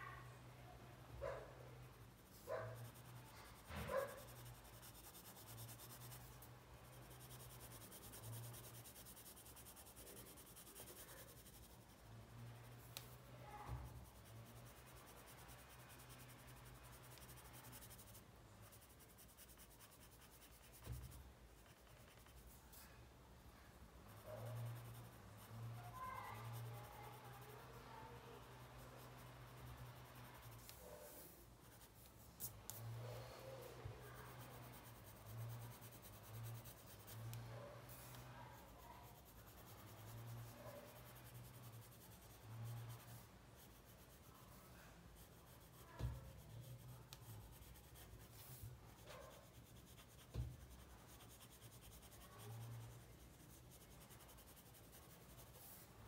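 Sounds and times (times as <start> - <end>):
pencil scratching on paper: 1.2 - 22.9, 24.0 - 56.0.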